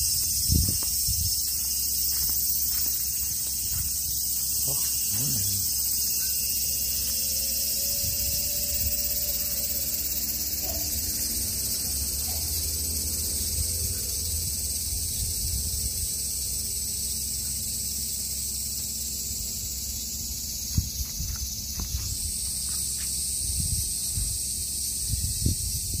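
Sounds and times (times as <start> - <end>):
insects chorus: 0.0 - 26.0.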